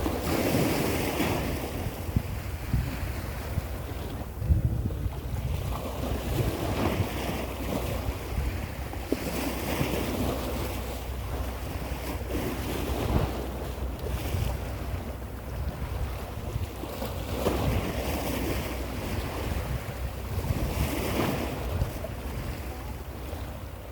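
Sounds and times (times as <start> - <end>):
sea waves washing: 0.0 - 23.9
wind rumbling on microphone: 0.0 - 23.9.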